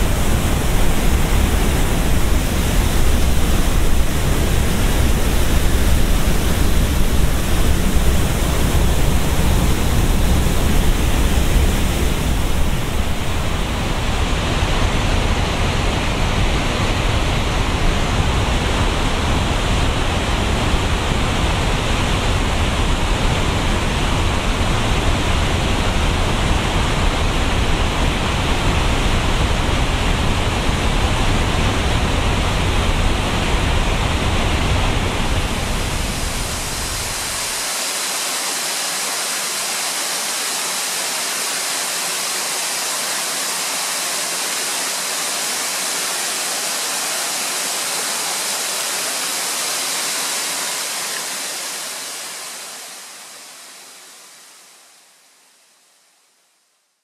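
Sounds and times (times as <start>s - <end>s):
water cascading over rocks: 0.0s - 55.2s
waterfall rushing: 0.0s - 55.4s.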